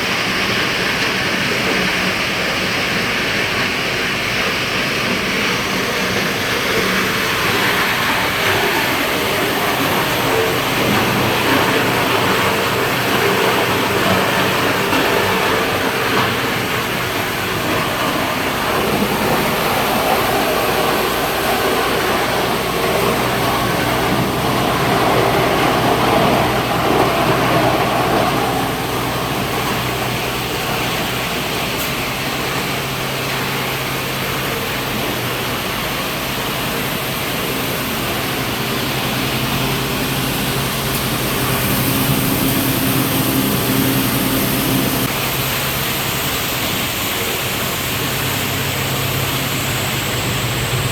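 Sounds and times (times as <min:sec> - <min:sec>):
low machine hum: 0:00.0 - 0:50.9.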